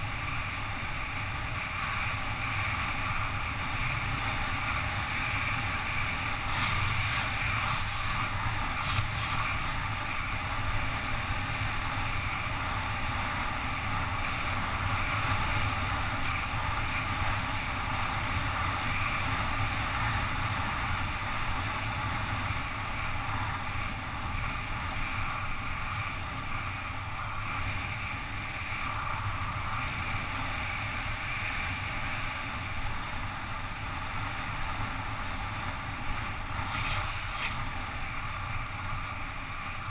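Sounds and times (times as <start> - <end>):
wind rushing over camera: 0.1 - 39.9.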